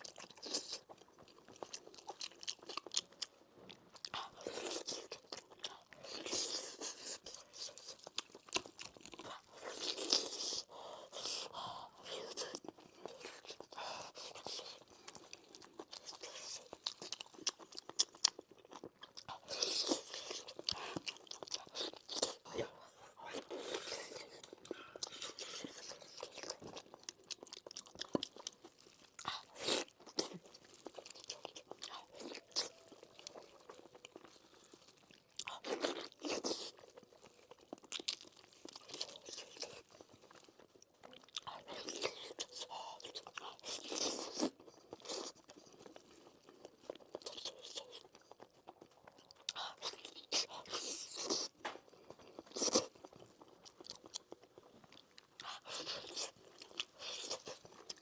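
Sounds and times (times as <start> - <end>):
person eating and chewing meat: 0.0 - 58.0.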